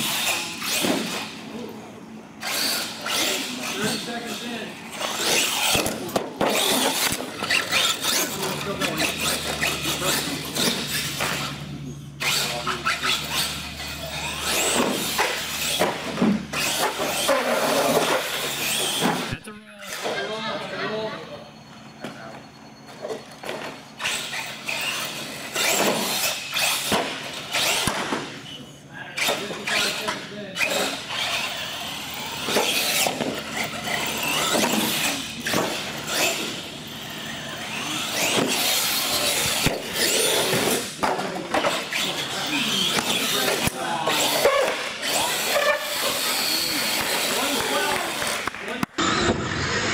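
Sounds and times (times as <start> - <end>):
electric motors whining: 0.0 - 49.9.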